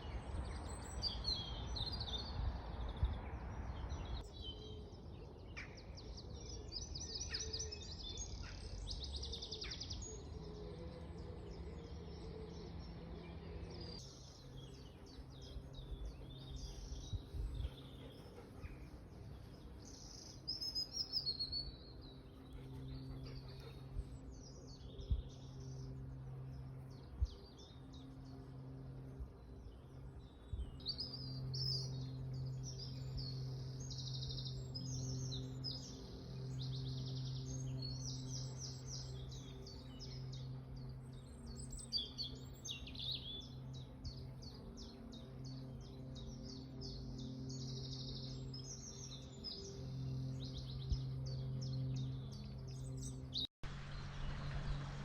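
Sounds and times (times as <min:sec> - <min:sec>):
songbirds chirping and trilling: 0:00.0 - 0:55.0
faint low hum: 0:09.4 - 0:55.0.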